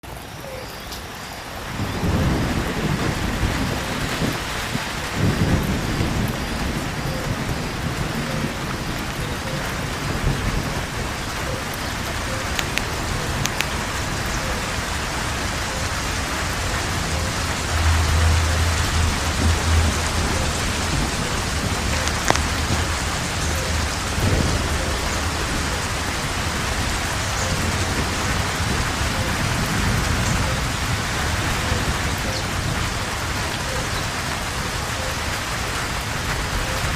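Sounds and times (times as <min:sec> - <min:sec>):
steady rain falling: 0:00.0 - 0:36.9
low thunder rumbling: 0:01.5 - 0:36.9.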